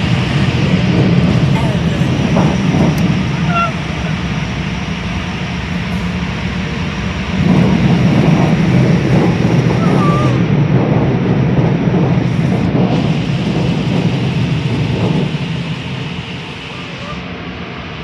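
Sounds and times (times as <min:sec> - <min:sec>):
car wash rushing noise: 0:00.0 - 0:18.0.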